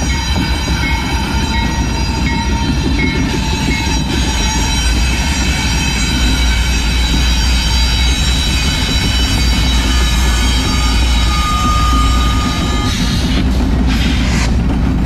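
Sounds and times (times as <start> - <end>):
high whine: 0.0 - 14.6
locomotive engine rumble: 0.0 - 15.0.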